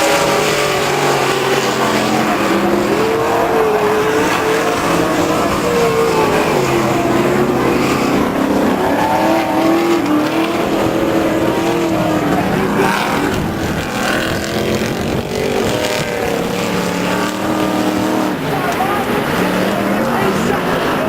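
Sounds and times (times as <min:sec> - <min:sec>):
race truck engines revving: 0:00.0 - 0:21.0.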